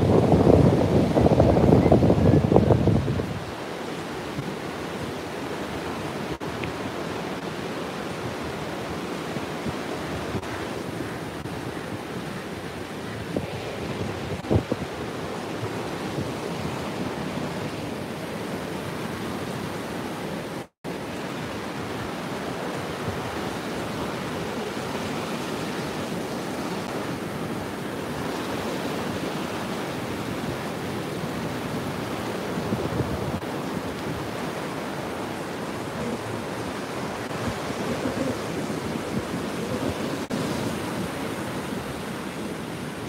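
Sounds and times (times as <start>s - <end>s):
sea surf breaking on shore: 0.0s - 43.0s.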